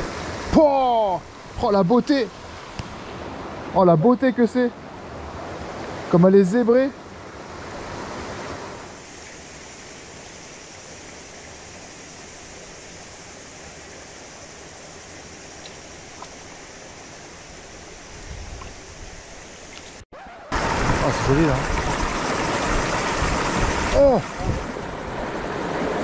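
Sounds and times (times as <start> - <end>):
stream water over rocks: 0.0 - 26.0.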